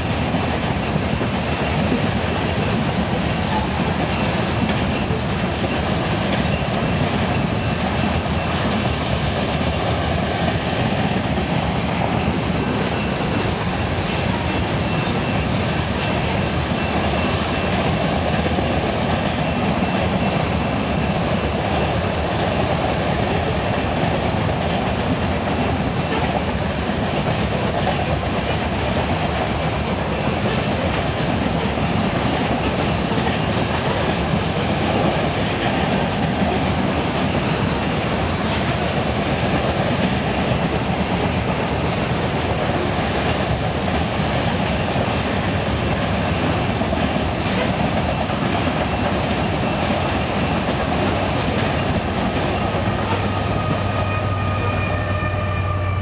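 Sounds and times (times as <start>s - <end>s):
train wheels clicking over rail joints: 0.0s - 55.5s.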